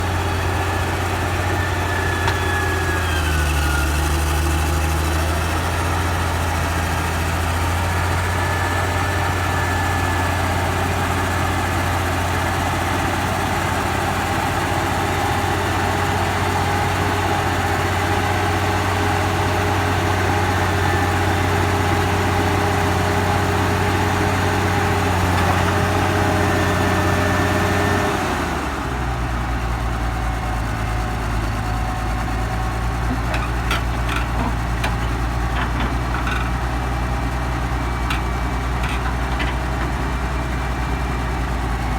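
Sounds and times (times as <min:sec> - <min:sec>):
diesel lorry engine running: 0:00.0 - 0:41.9.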